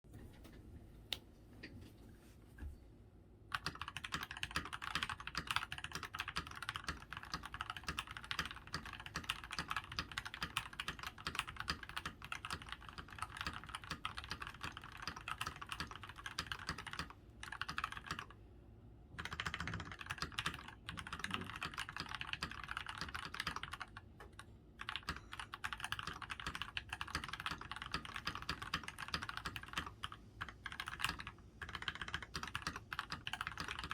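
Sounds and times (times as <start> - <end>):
fast typing on mechanical keyboard: 3.5 - 18.4, 19.2 - 33.9.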